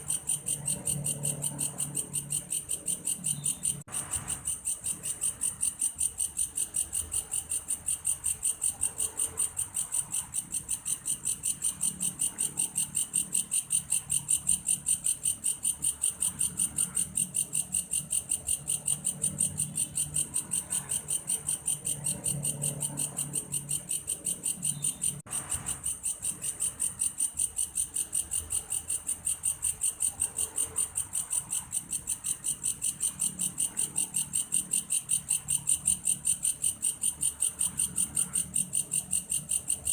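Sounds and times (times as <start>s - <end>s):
grasshopper chirping: 0.0s - 39.9s.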